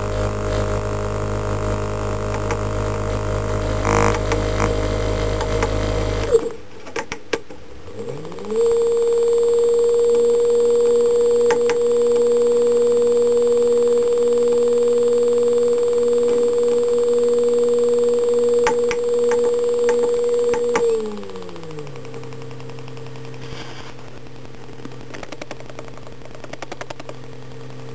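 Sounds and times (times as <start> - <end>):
electric motor whine: 0.0 - 6.6, 7.8 - 27.9
motor clicks: 0.1 - 27.9.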